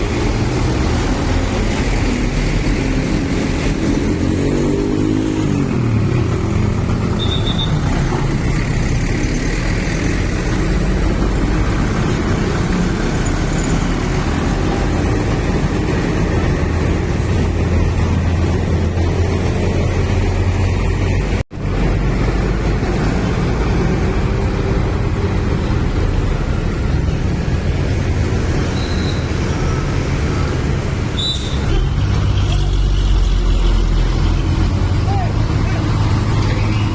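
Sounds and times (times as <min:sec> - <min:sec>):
traffic noise: 0:00.0 - 0:36.9
truck diesel engines running: 0:00.0 - 0:36.9.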